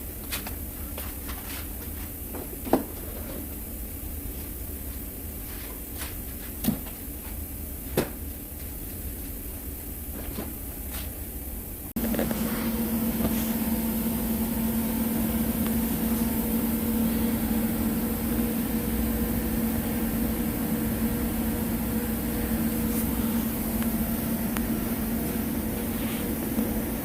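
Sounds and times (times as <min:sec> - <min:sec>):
steady machine hum: 0:01.8 - 0:27.0.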